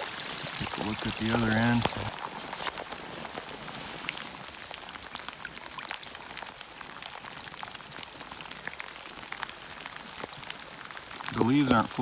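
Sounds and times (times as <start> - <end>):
drops ticking on water and leaves: 0.0 - 12.0
rain falling into a pool: 0.0 - 12.0.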